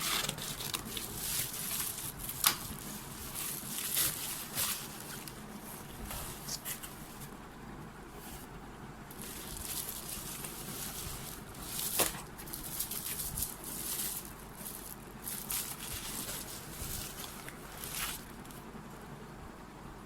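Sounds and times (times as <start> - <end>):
packaging crackle: 0.0 - 7.3, 9.1 - 18.6
packaging crinkling: 0.0 - 7.4, 9.1 - 18.6.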